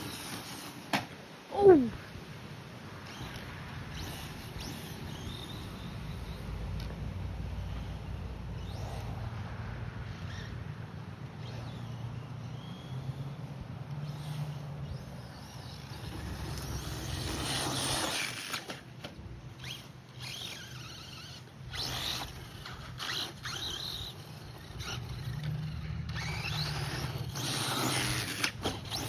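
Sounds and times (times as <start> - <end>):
rc car motor hum: 0.0 - 29.0
tyre and grit noise: 0.0 - 29.0.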